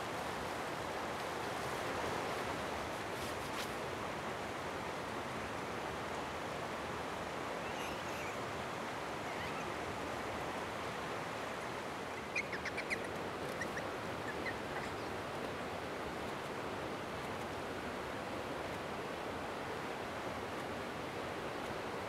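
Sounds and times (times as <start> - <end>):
flowing water: 0.0 - 22.0.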